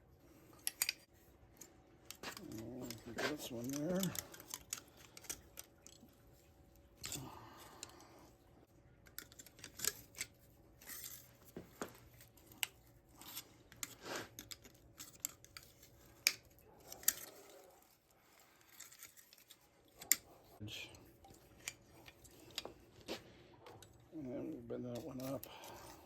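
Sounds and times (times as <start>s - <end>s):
metal and tool scraping: 0.5s - 8.0s, 9.1s - 24.1s, 24.8s - 26.0s.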